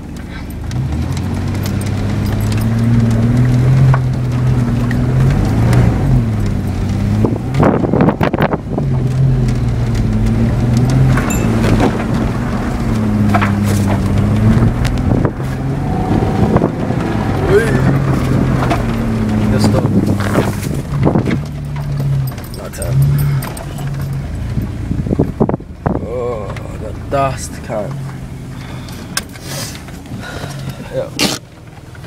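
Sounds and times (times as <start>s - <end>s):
car engine revving hard: 0.0s - 31.5s.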